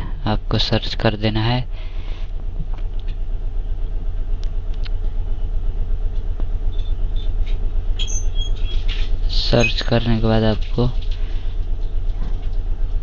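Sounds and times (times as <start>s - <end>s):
low fluttering hum: 0.0s - 13.0s.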